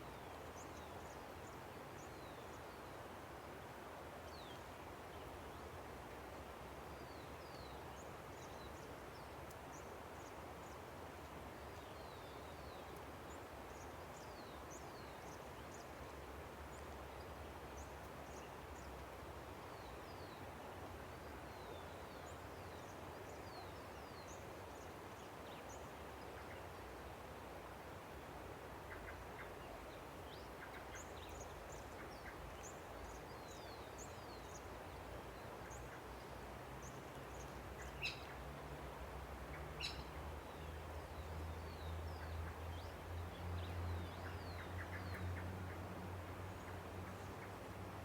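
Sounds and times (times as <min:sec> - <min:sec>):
river flowing: 0:00.1 - 0:48.0.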